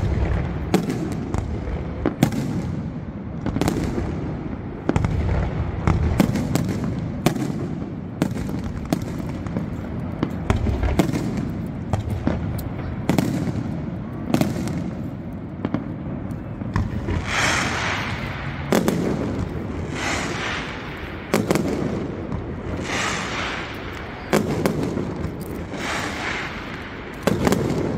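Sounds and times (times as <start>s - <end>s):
crackling hisses of fireworks: 0.0s - 27.9s
fireworks bangs: 0.0s - 27.9s.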